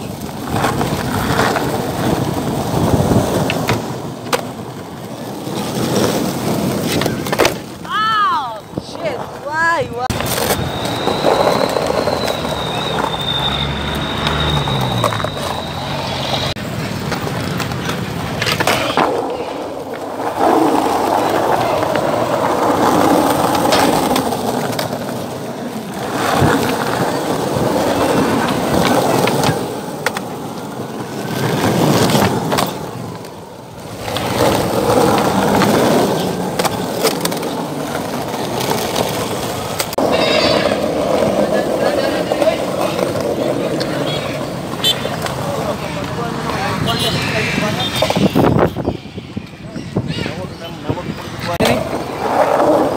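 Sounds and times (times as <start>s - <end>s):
skateboard clacks: 0.0s - 46.9s
skateboard wheels rolling: 0.0s - 52.9s.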